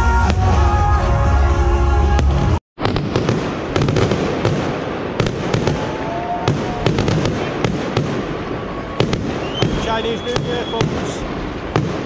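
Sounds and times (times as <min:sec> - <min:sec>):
fireworks bangs and crackles: 0:02.1 - 0:12.0.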